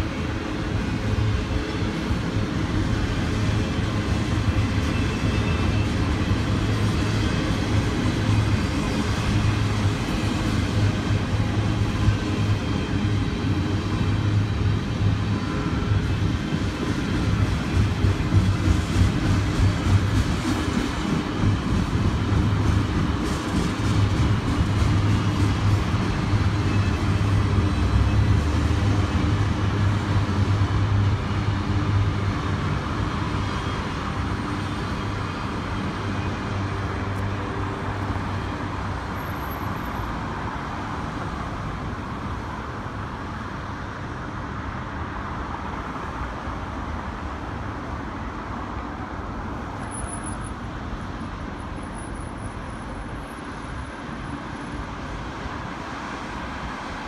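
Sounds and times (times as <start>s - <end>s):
freeway traffic noise: 0.0s - 57.0s
train rumbling past: 0.0s - 57.0s.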